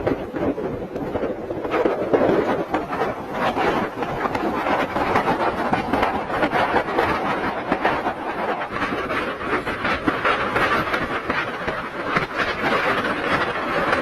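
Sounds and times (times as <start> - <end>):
wind and rain rushing: 0.0 - 14.0.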